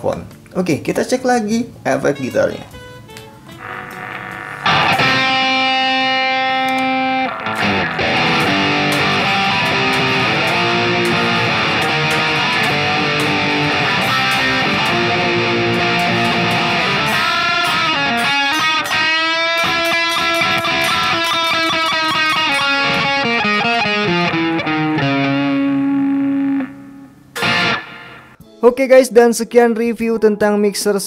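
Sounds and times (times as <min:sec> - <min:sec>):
distorted electric guitar: 0:02.5 - 0:28.4.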